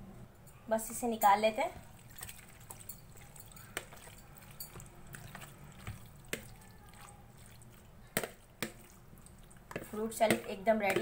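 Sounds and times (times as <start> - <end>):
wet squelching of salad: 1.8 - 11.0.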